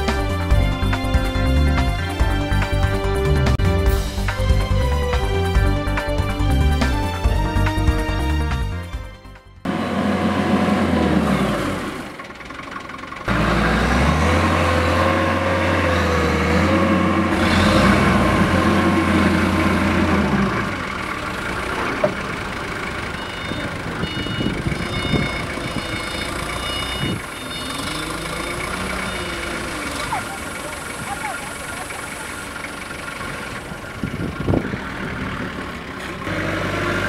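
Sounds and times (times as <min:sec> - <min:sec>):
forklift diesel engine running: 0:00.0 - 0:37.0.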